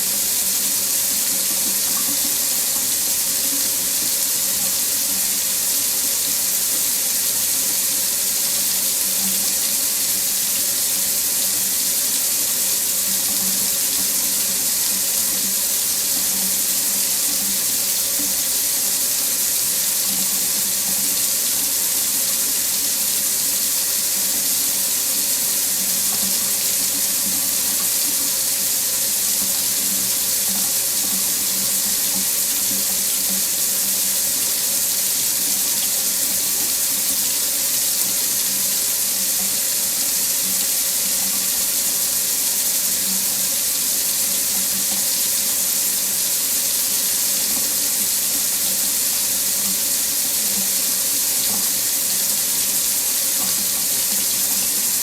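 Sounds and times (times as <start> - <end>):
faucet water running into sink: 0.0 - 55.0.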